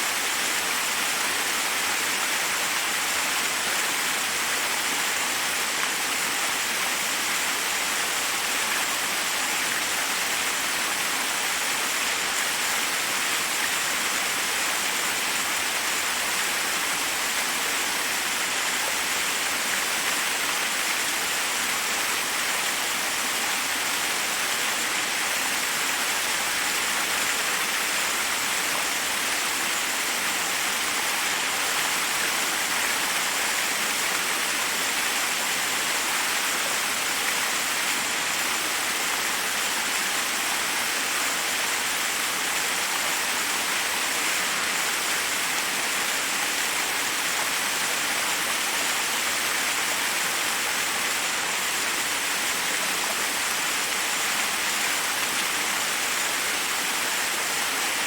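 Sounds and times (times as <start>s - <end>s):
water cascading over rocks: 0.0s - 58.0s.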